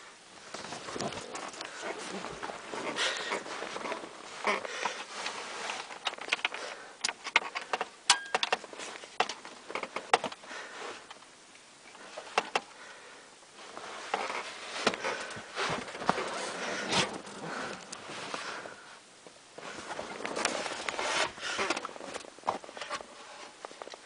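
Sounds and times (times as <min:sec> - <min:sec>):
handling clicks and rustling: 0:00.3 - 0:12.7, 0:13.6 - 0:24.0.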